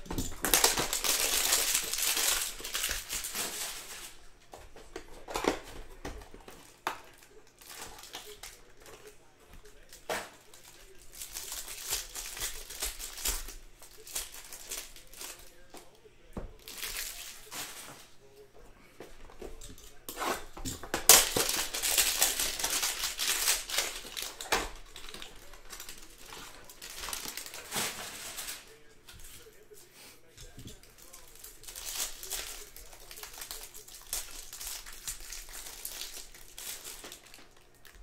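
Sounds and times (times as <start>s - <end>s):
card pack wrappers crinkling: 0.0s - 18.1s, 19.3s - 29.7s, 30.6s - 38.0s.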